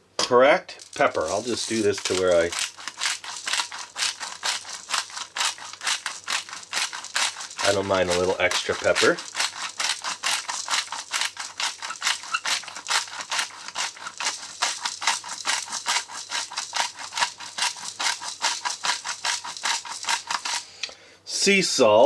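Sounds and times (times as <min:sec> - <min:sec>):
pepper container rattling: 0:00.7 - 0:20.7.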